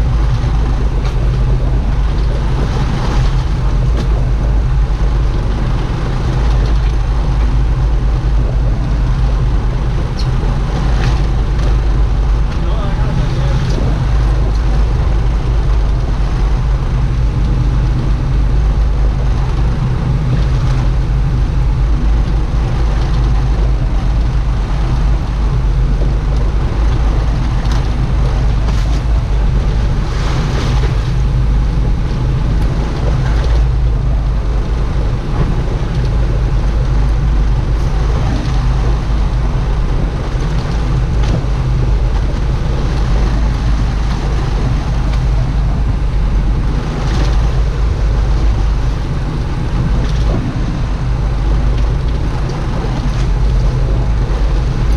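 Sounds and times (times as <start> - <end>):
boat engine droning: 0.0 - 54.9
water rushing: 0.0 - 54.9
wind: 0.0 - 54.9.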